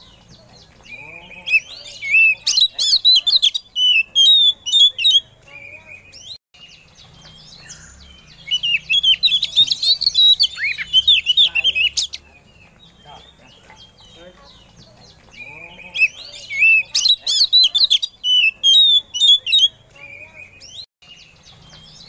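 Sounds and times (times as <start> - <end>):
bird whistles and chirps: 0.9 - 14.2, 15.3 - 22.0.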